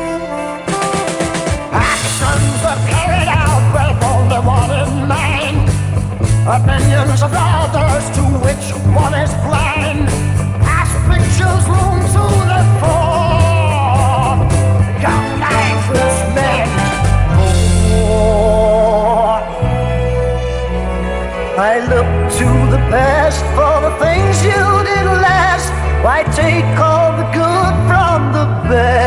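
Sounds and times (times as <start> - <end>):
drums: 0.0 - 20.1, 22.2 - 28.3
wavering lead melody: 0.0 - 29.0
pulsing bass line: 1.8 - 29.0.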